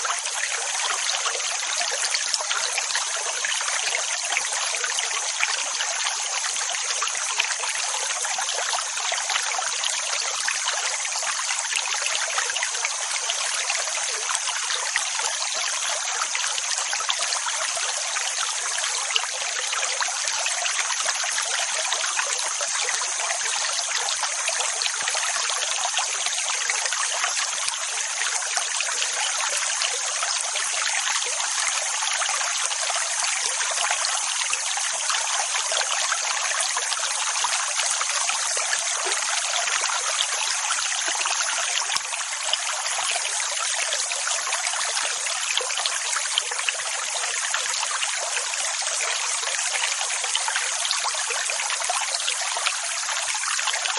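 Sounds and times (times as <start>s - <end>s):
running water rushing hiss: 0.0s - 53.9s.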